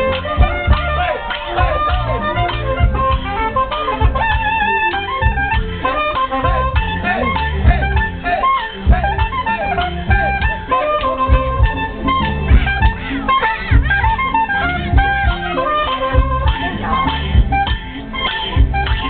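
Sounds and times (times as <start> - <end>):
heavy drum beats: 0.0 - 19.0
saxophone melody: 0.0 - 19.0.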